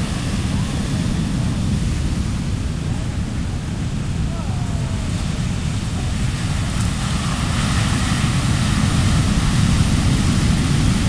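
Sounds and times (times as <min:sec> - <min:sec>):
heavy surf crashing: 0:00.0 - 0:11.0
wind buffeting microphone: 0:00.0 - 0:11.0.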